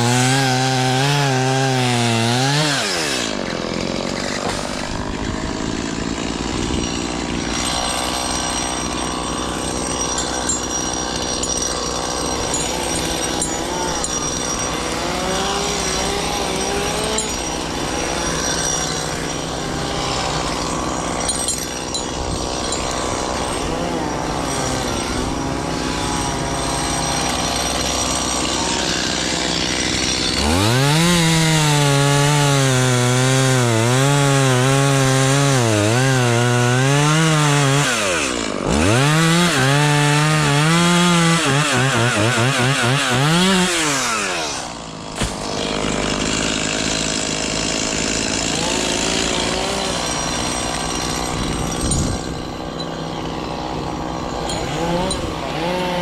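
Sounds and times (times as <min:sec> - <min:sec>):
small engine revving: 0:10.0 - 0:47.0, 0:47.8 - 0:56.0.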